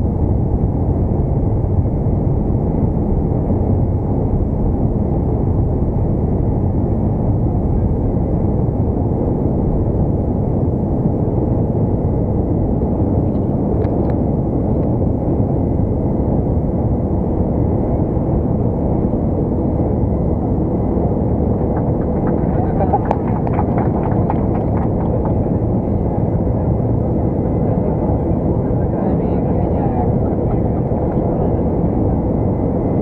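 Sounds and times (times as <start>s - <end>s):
airplane cabin engine rush: 0.0s - 33.0s.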